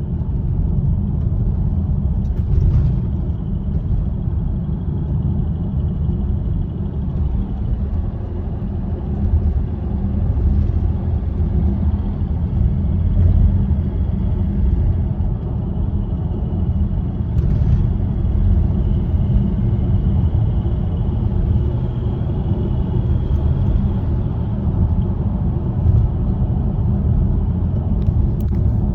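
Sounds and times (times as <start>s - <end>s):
diesel engine rumbling: 0.0s - 28.9s.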